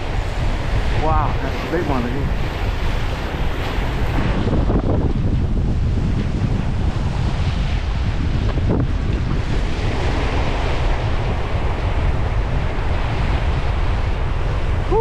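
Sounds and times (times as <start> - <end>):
strong wind on microphone: 0.0 - 15.0
waves washing at shore: 0.0 - 15.0.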